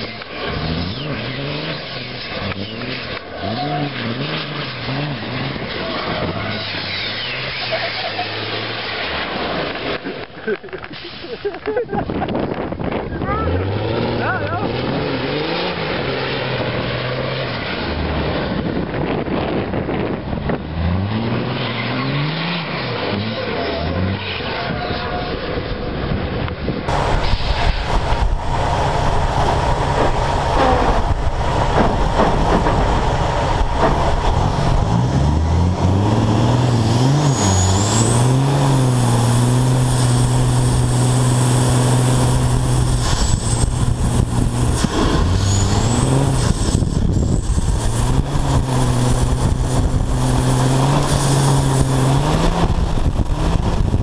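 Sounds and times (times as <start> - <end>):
truck diesel engine revving: 0.0 - 11.1, 12.8 - 24.6, 26.9 - 54.0.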